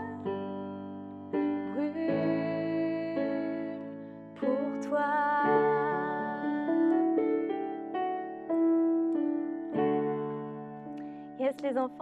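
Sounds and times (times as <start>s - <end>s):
keyboard playing slow chords: 0.0s - 11.4s.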